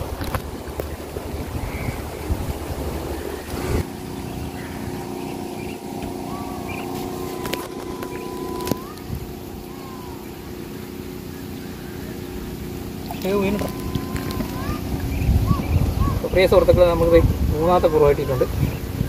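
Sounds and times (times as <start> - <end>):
motorboat engine drone: 0.0 - 19.0
wind buffeting microphone: 0.0 - 19.0.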